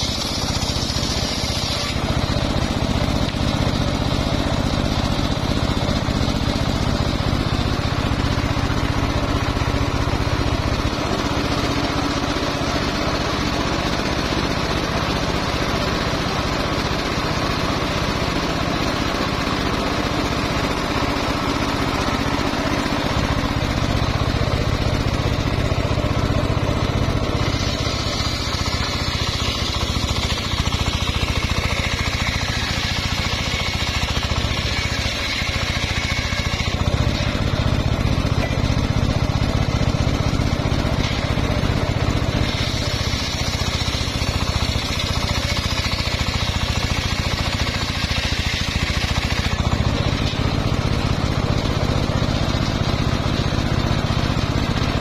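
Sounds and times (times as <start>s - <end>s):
circular saw ripping wood: 0.0s - 55.0s.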